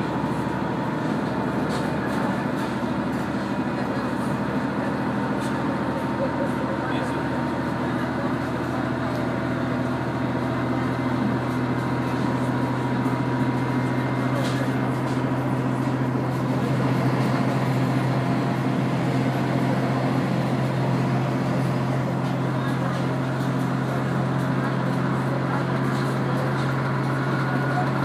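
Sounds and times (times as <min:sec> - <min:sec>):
railcar diesel engine drone: 0:00.0 - 0:28.0.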